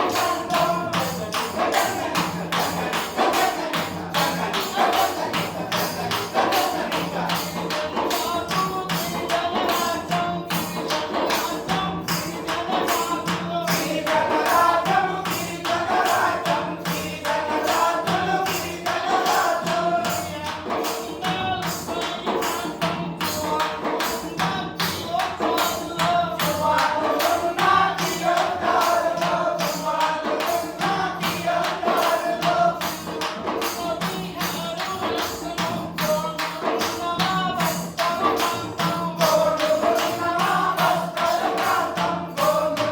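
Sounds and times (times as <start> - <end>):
hand percussion beat: 0.0 - 42.9
man singing folk song: 0.0 - 42.9
tambourine-like jingle: 0.0 - 42.9.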